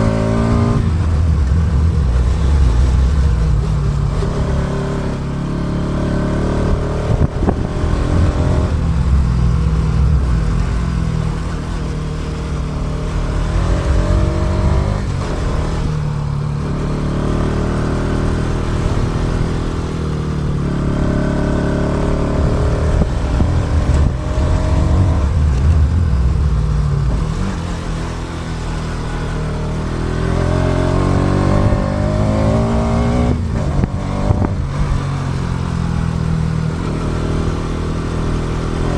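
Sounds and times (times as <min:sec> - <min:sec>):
wind rumble: 0:00.0 - 0:05.4, 0:06.1 - 0:38.9
motorcycle engine revving: 0:00.0 - 0:38.9.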